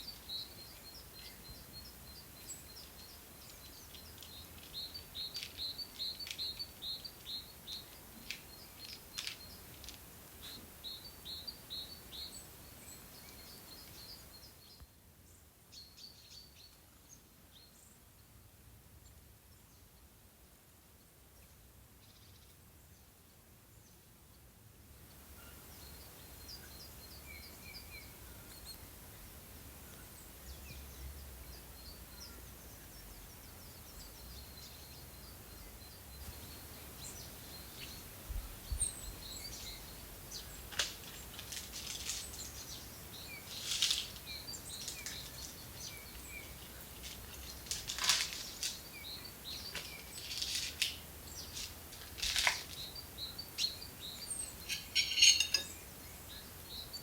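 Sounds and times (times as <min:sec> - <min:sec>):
faint outdoor hiss: 0:00.0 - 0:57.0
small birds chirping: 0:00.0 - 0:57.0.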